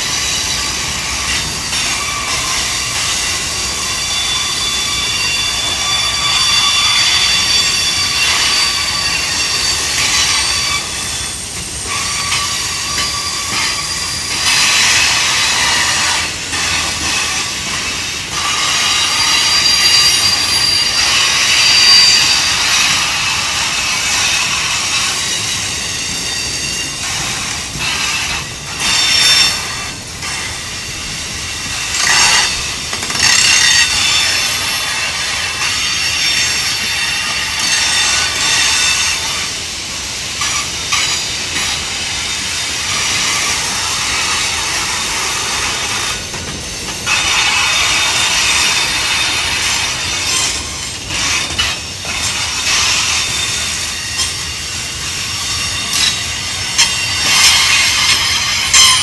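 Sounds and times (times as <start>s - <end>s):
wheel squeal: 0.0s - 39.6s, 40.4s - 59.0s
train wheels rumbling and clattering: 0.0s - 59.0s.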